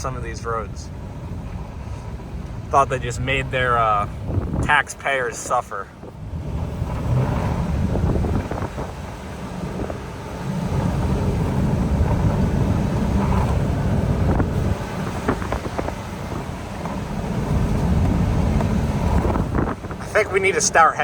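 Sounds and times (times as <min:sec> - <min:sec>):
road and engine rumble: 0:00.0 - 0:21.0
wind buffeting microphone: 0:00.0 - 0:21.0.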